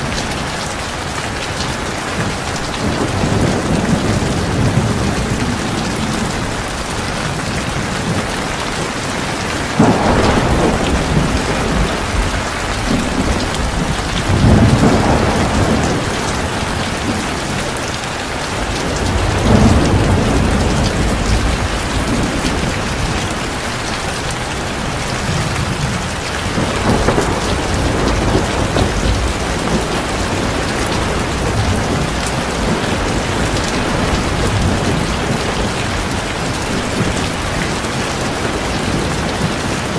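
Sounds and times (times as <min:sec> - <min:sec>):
heavy rain falling: 0:00.0 - 0:39.9
rolling thunder: 0:01.6 - 0:39.9.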